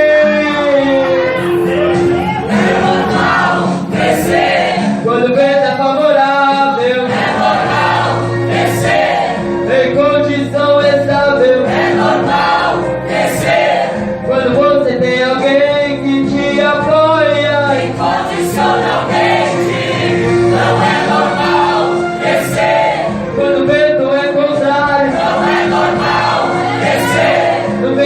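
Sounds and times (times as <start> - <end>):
instrumental accompaniment: 0.0 - 28.0
choir singing a gospel hymn: 0.1 - 28.0.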